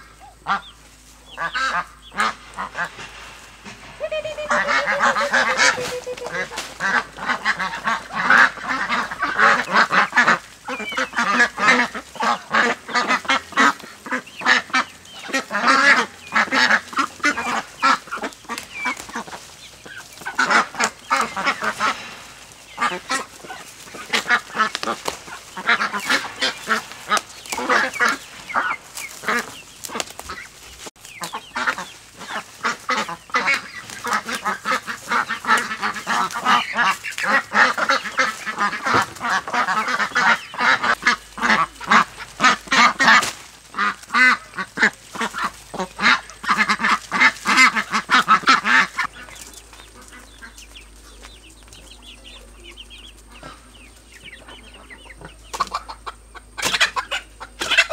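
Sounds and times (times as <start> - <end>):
waterfowl honking and quacking: 0.0 - 57.9.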